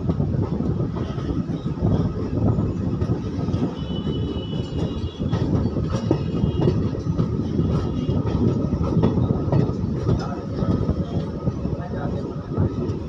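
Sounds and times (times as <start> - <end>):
wheels clicking over rail joints: 0.0 - 11.3
train wheels rumbling: 0.0 - 13.0.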